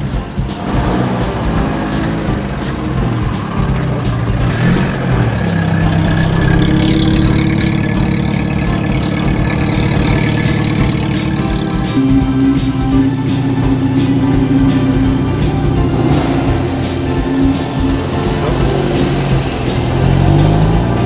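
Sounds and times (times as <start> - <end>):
car engine running: 0.0 - 21.0
music with steady beat: 0.0 - 21.0.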